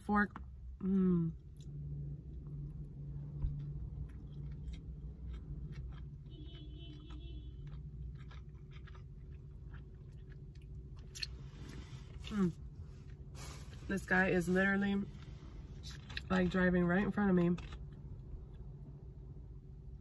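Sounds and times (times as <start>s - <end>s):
low hum: 0.0s - 20.0s
person chewing food: 1.5s - 13.9s, 14.6s - 18.8s.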